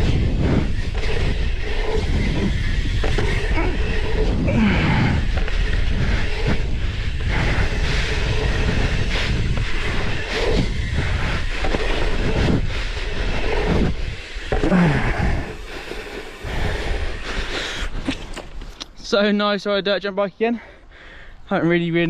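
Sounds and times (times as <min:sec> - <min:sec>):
wind buffeting microphone: 0:00.0 - 0:19.3
bike tyres rolling on dirt: 0:00.0 - 0:19.6.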